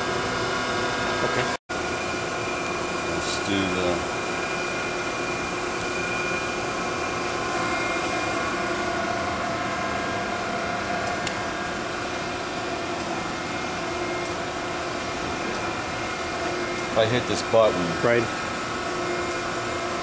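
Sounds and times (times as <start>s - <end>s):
surface grinder running: 2.7s - 20.0s.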